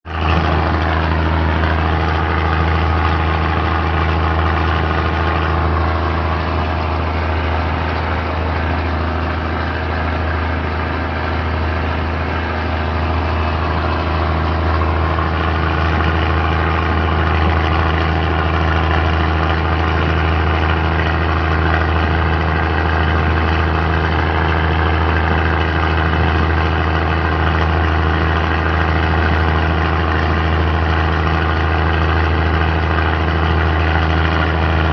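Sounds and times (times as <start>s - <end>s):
train engine hum: 0.0s - 34.9s
train running rumble: 0.0s - 34.9s.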